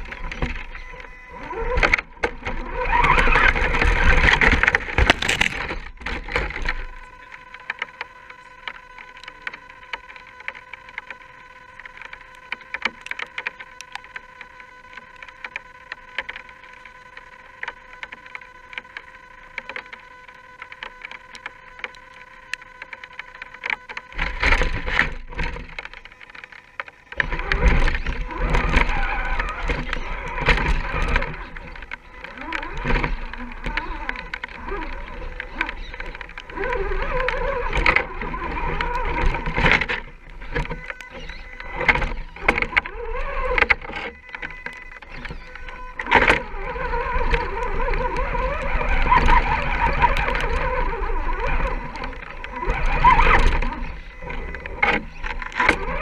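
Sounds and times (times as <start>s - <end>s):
electric motor whine: 0.0s - 56.0s
rough scraping noise with rumble: 0.0s - 56.0s.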